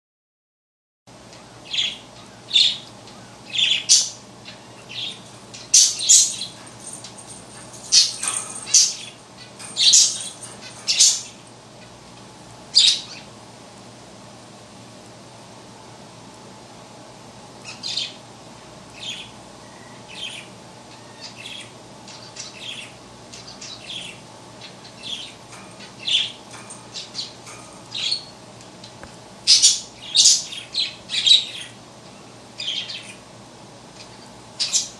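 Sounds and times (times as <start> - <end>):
faint steady hum: 1.1 - 34.9.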